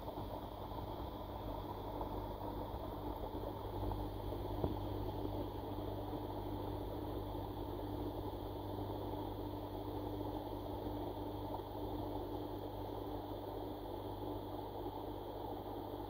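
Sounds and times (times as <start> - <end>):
pond pump humming underwater: 0.0 - 16.0.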